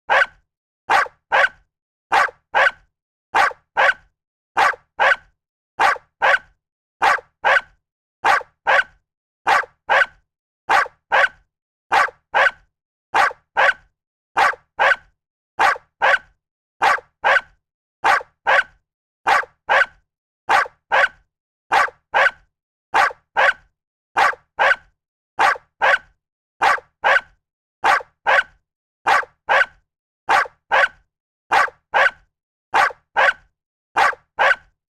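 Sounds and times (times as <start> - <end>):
dog barking: 0.1 - 22.4, 23.0 - 34.7.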